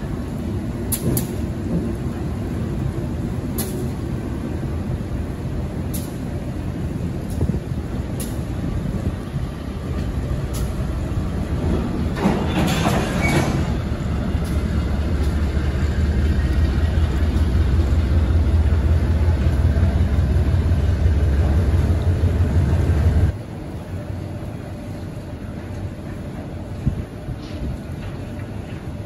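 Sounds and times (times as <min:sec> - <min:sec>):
freight train wagons rolling: 0:00.0 - 0:29.0.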